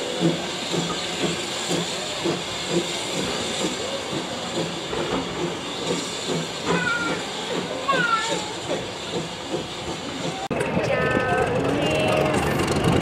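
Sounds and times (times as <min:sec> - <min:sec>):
steady steam hiss: 0:00.0 - 0:10.5
steam locomotive exhaust beats: 0:00.0 - 0:13.0.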